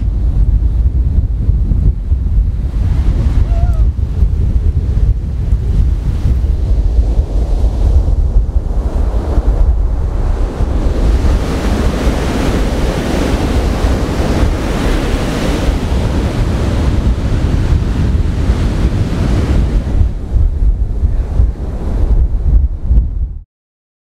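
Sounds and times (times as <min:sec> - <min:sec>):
surf breaking on the beach: 0:00.0 - 0:23.4
wind buffeting microphone: 0:00.0 - 0:23.4.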